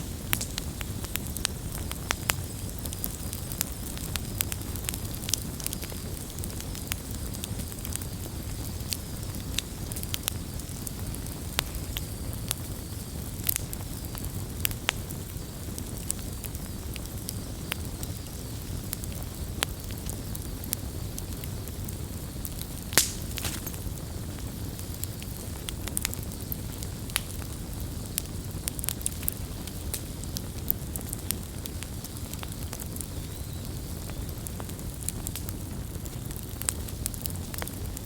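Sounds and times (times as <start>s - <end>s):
fire crackles and pops: 0.0s - 38.0s
low rumble of flames: 0.0s - 38.0s.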